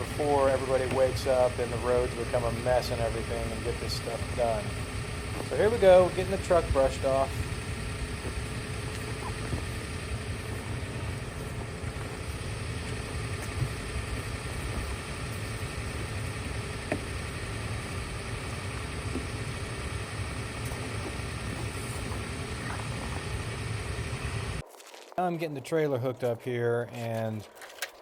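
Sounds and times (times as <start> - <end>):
truck engine idling: 0.0 - 24.6.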